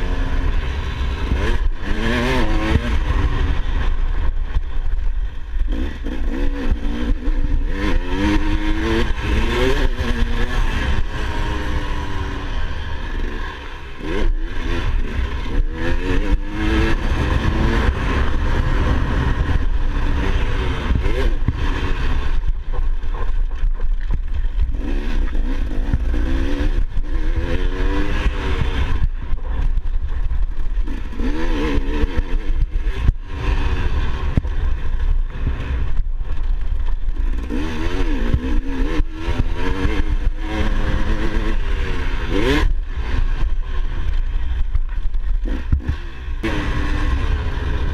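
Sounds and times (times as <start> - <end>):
dirt bike engine revving: 0.0 - 47.9
heavy low rumble: 0.0 - 47.9.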